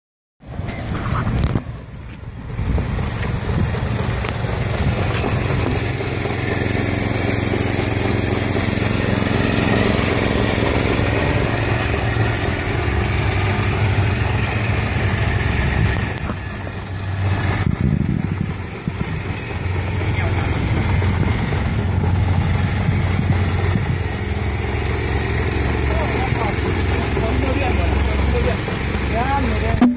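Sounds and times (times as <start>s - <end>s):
small engine running: 0.4s - 29.9s.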